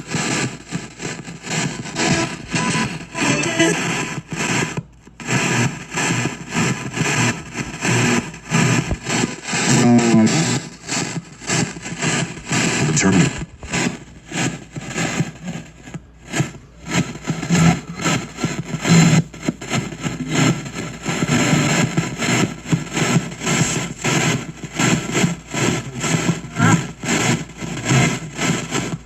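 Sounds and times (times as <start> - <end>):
choppy radio static bursts: 0.0 - 29.0.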